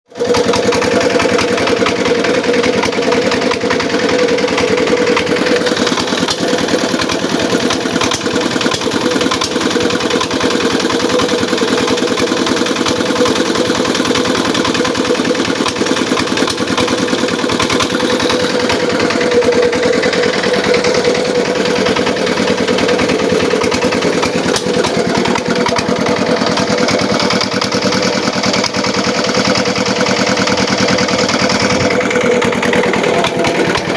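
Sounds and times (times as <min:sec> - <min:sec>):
small engine running steadily: 0:00.0 - 0:33.9.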